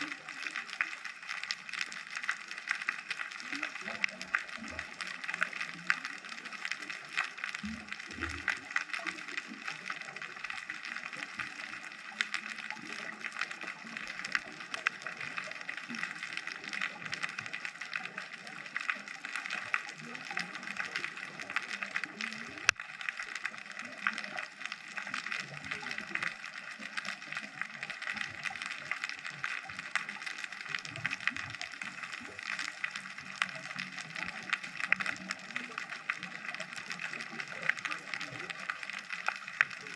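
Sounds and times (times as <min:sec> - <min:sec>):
underwater clicks and pops: 0:00.0 - 0:39.9.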